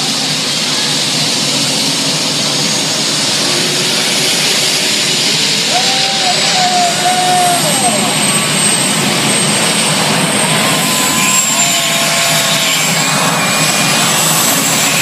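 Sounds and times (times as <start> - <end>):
jet engine roar and hiss: 0.0 - 15.0.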